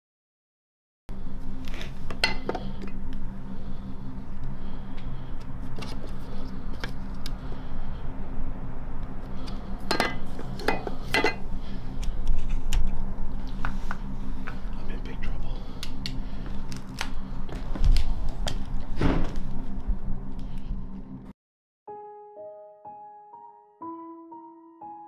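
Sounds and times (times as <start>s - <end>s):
steady low hum: 1.1s - 21.3s.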